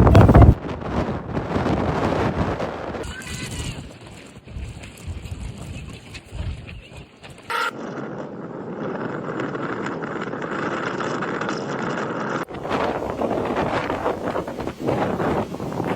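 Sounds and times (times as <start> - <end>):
strong wind blowing: 0.0 - 15.9
wind buffeting microphone: 0.0 - 15.9.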